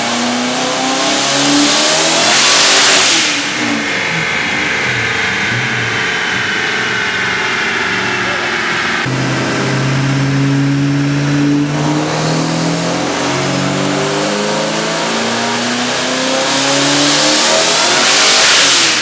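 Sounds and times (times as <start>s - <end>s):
car engine running hard under load: 0.0s - 19.0s.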